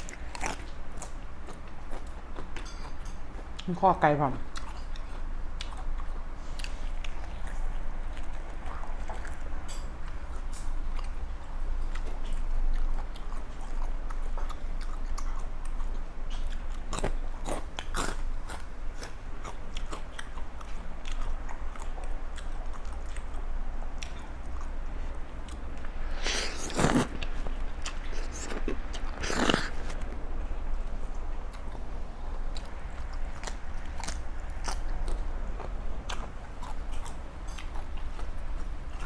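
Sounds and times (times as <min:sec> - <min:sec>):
chewing with sharp bone crunches: 0:00.0 - 0:03.7, 0:04.5 - 0:30.2, 0:31.1 - 0:39.0.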